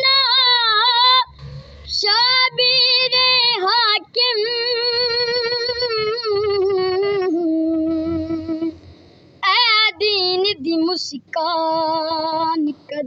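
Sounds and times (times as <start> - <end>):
boy singing unaccompanied: 0.0 - 8.8, 9.4 - 13.0.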